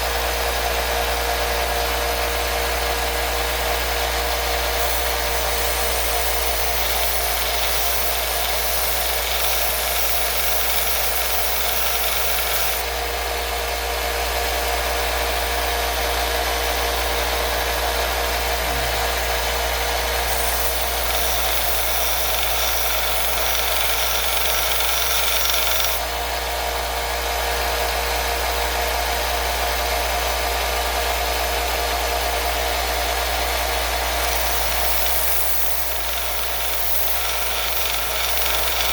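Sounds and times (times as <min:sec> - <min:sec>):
power tool motor running: 0:00.0 - 0:38.9.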